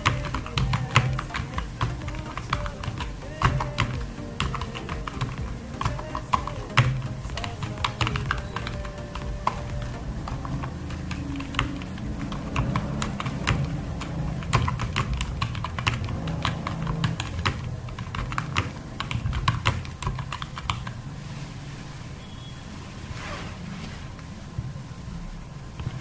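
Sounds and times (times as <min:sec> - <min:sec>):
fast typing on keyboard: 0:00.0 - 0:21.0
steady low hum: 0:00.0 - 0:26.0.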